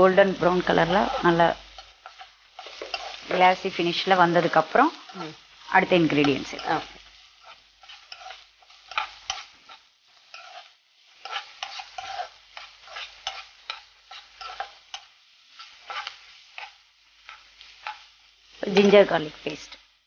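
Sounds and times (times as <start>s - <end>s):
onions sizzling in oil: 0.0s - 20.0s
spatula scraping a pan: 0.5s - 19.8s.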